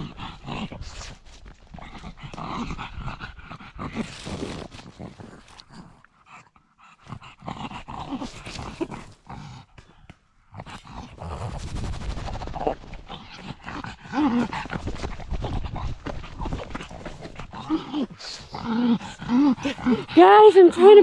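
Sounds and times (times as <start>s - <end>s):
dog snorting breath: 0.0s - 21.0s.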